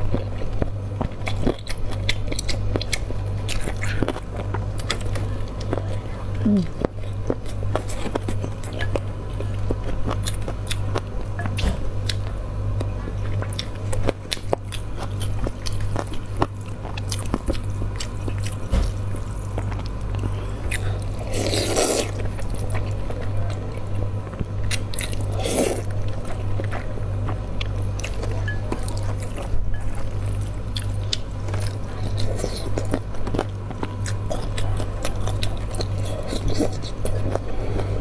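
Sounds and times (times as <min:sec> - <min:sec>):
steady low hum: 0:00.0 - 0:38.0
wet chewing with mouth clicks: 0:00.0 - 0:38.0.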